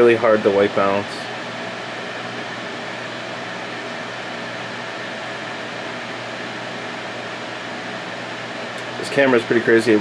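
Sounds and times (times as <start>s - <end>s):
ventilation fan noise: 0.0s - 10.0s.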